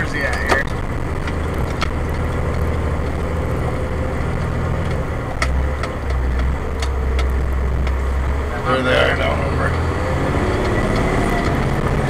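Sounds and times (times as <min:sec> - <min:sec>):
fire engine motor running: 0:00.0 - 0:12.0
road noise: 0:00.0 - 0:12.0.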